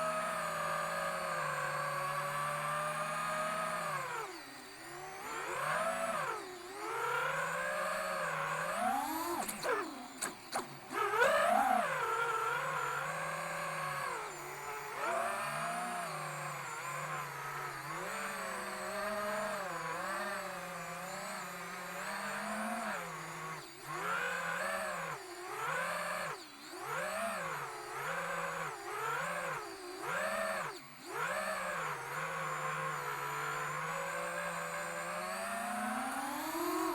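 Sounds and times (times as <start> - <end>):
drone motors whining: 0.0 - 36.9.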